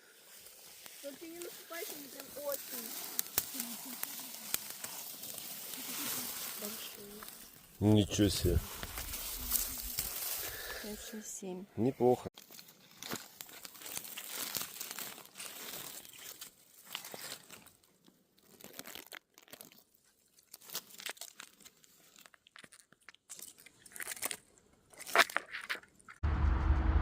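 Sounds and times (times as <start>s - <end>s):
crunching in dry undergrowth: 0.0s - 11.0s, 12.4s - 26.2s.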